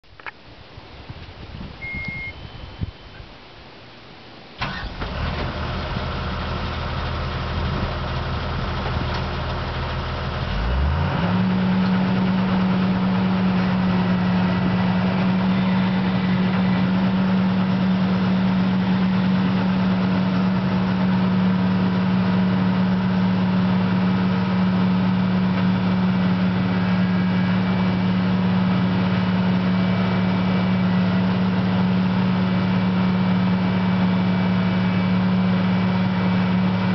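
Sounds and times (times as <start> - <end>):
excavator diesel engine revving: 4.6 - 36.9.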